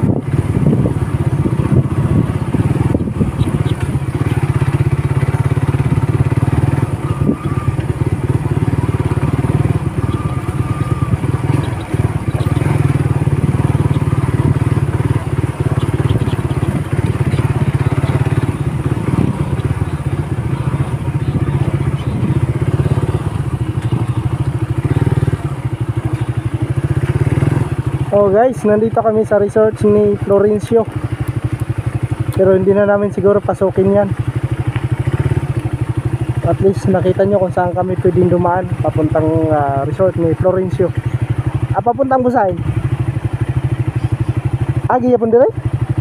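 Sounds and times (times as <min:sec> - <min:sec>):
small motorcycle engine running: 0:00.0 - 0:46.0.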